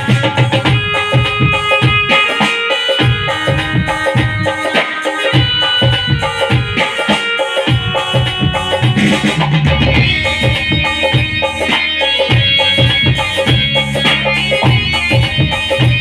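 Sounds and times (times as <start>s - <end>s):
held melodic notes: 0.0s - 16.0s
quick drum rhythm: 0.0s - 16.0s.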